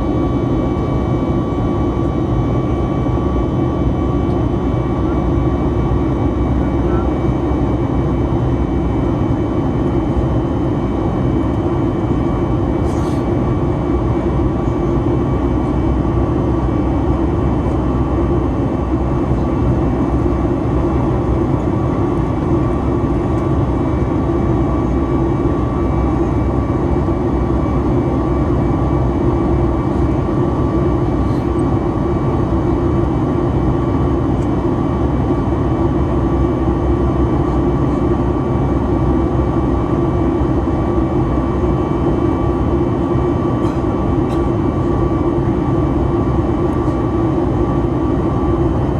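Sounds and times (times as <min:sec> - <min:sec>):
jet cabin engine noise: 0:00.0 - 0:48.9.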